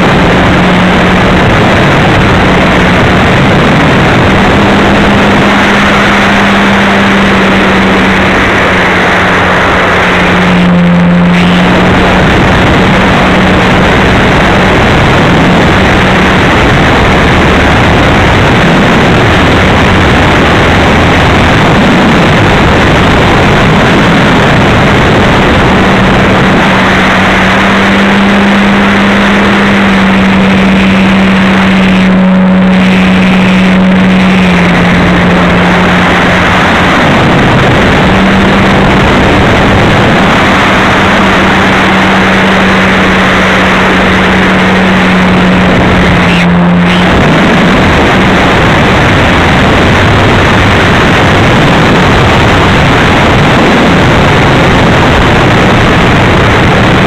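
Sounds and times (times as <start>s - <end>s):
wind rush: 0.0s - 57.0s.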